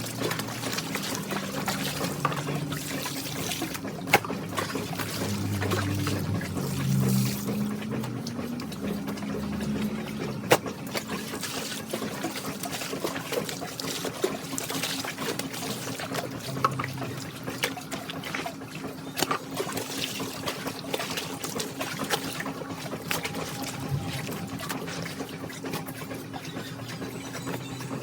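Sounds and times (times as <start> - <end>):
water running and trickling: 0.0 - 28.0.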